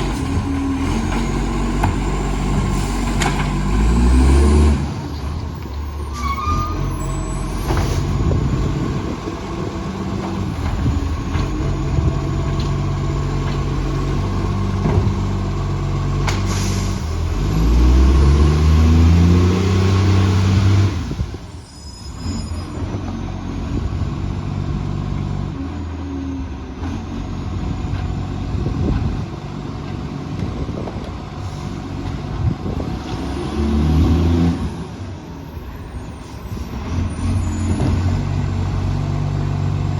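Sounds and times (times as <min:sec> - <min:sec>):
diesel truck engine revving: 0:00.0 - 0:21.5, 0:22.2 - 0:39.9.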